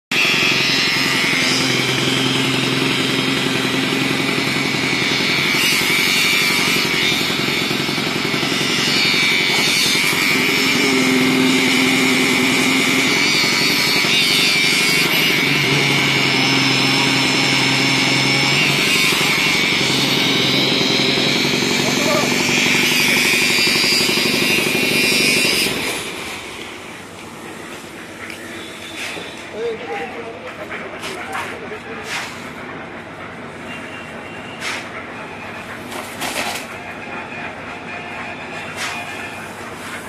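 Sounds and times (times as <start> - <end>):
concrete vibrator engine drone: 0.1 - 40.0.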